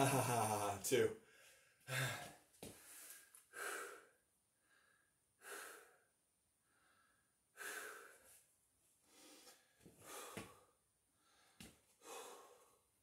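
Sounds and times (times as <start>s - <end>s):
man breathing hard: 1.2s - 12.9s.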